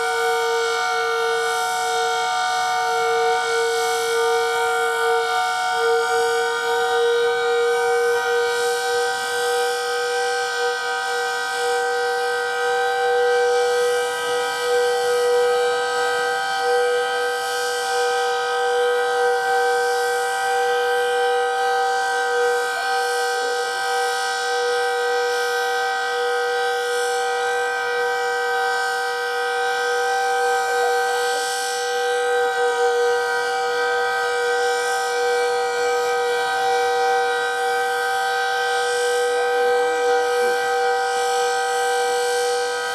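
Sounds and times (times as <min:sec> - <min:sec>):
warning siren steady tone: 0:00.0 - 0:42.9.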